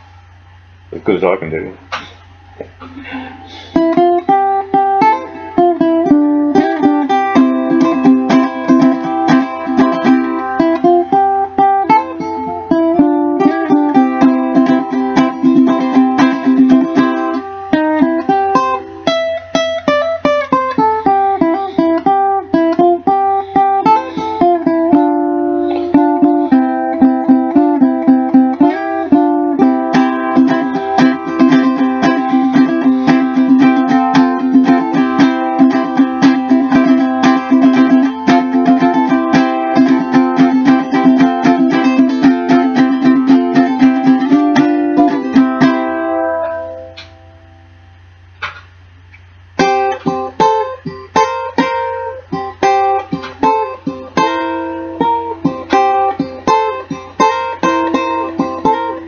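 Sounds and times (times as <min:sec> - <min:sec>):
ukulele picking: 0:01.9 - 0:59.0.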